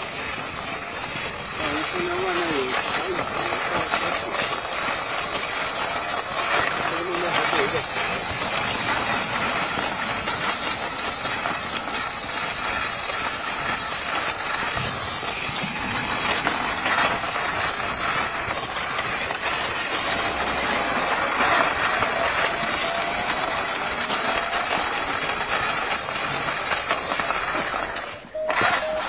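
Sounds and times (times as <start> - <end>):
toy car motor whirring: 0.0 - 29.0
tyres rolling on stone: 0.0 - 29.0.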